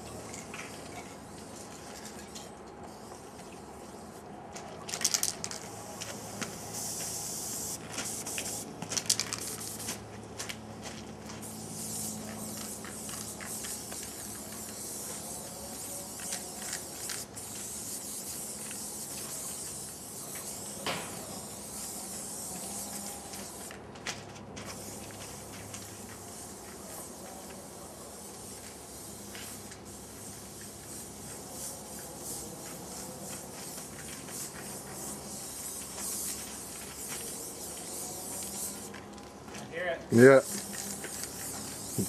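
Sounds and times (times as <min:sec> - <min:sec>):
spray paint cans hissing: 0:00.0 - 0:42.0.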